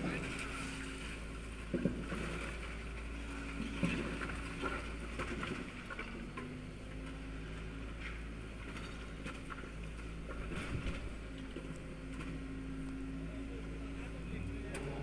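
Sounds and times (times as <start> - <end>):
excavator engine hum: 0.0 - 15.0.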